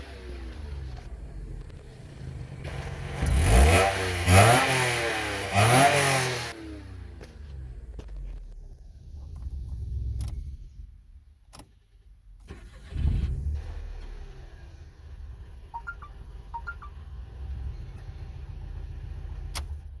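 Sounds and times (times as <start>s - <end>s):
car engine starting and idling: 0.0s - 20.0s.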